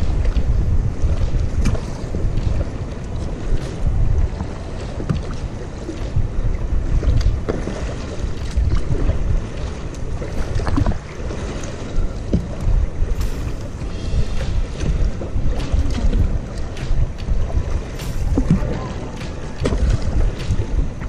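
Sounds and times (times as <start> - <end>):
kayak paddle pulling through water: 0.0 - 21.0
water lapping at hull: 0.0 - 21.0
water splashes and drips: 0.0 - 21.0
wind rumble on microphone: 0.0 - 21.0.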